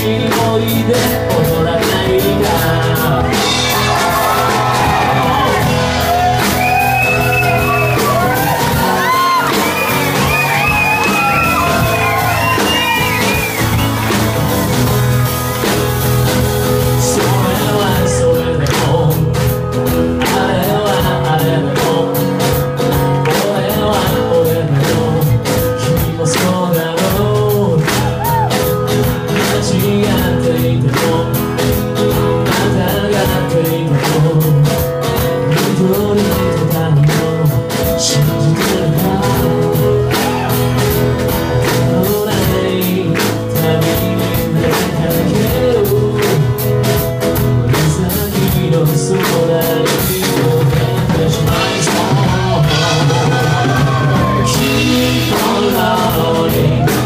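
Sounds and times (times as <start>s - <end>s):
drum kit steady beat: 0.0s - 57.0s
guitars: 0.0s - 57.0s
person singing: 0.0s - 57.0s.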